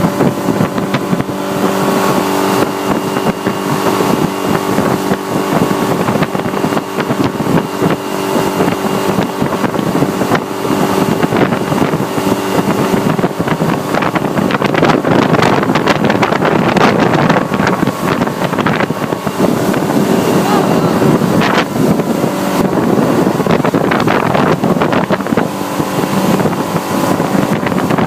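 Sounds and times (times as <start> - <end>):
motorboat engine running: 0.0 - 28.0
wind on microphone: 0.0 - 28.0.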